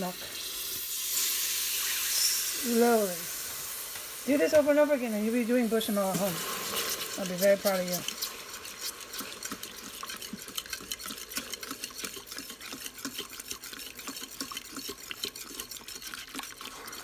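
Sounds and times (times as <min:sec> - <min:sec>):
utensil scraping metal pot: 0:00.0 - 0:17.0.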